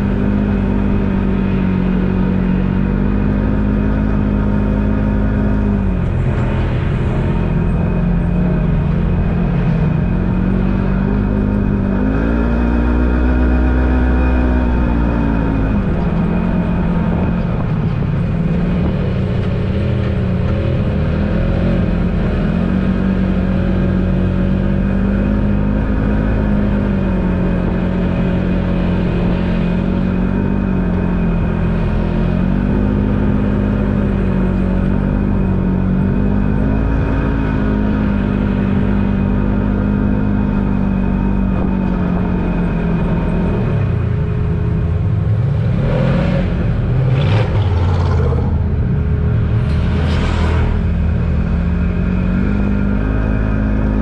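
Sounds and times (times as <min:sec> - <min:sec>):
twin-cylinder engine running: 0:00.0 - 0:54.0.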